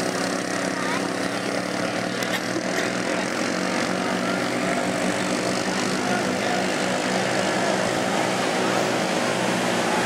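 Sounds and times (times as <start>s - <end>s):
quad engines running hard: 0.0s - 10.0s.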